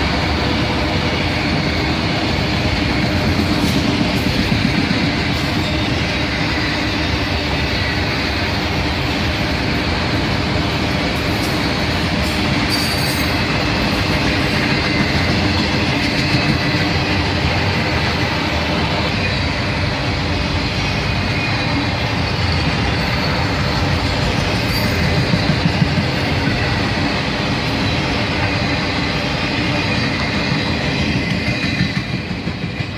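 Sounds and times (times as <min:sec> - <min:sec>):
freight train cars rolling past: 0:00.0 - 0:32.9.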